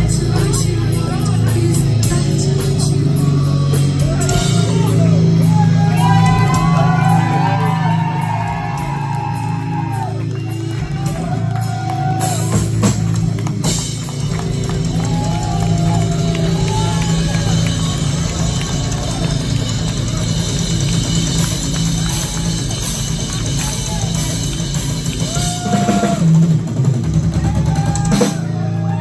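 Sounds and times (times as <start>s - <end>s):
distorted guitar and bass chords: 0.0s - 29.0s
drums: 0.0s - 29.0s.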